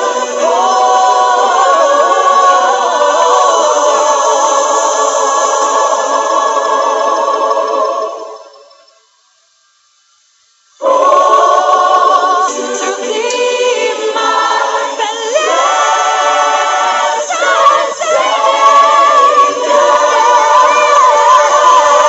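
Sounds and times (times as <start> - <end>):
choir singing a cappella: 0.0 - 9.1, 10.8 - 22.0.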